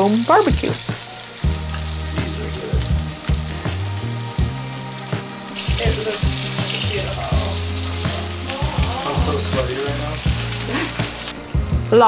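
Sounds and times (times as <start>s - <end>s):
meat sizzling on a grill pan: 0.0s - 11.9s.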